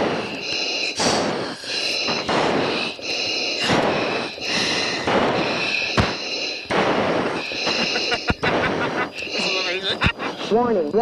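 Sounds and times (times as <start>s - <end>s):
rapid breathing through oxygen mask: 0.0s - 10.8s.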